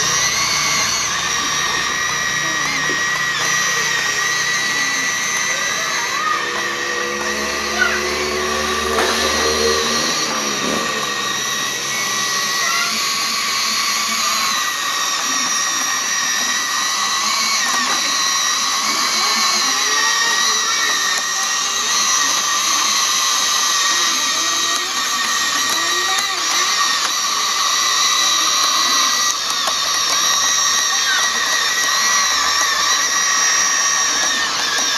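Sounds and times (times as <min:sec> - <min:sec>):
small electric motors whining: 0:00.0 - 0:34.9.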